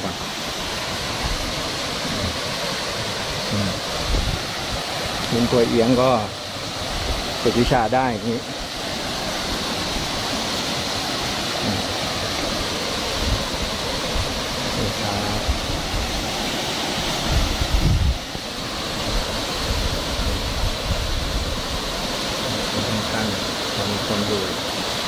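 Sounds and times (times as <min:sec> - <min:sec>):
waterfall pouring over rocks: 0:00.0 - 0:25.0.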